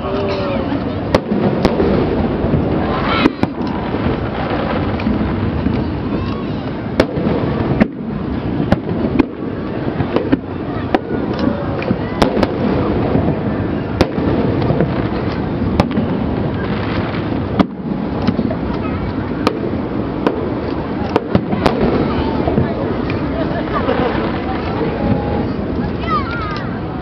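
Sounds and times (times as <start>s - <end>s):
continuous rumble: 0.0s - 27.0s
fireworks bangs and cracks: 0.0s - 27.0s.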